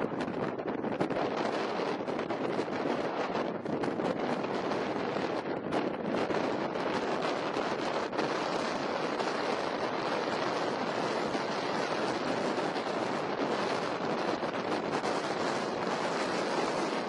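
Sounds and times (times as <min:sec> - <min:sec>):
sea surf: 0:00.0 - 0:17.0
wind rushing over microphone: 0:00.0 - 0:17.0.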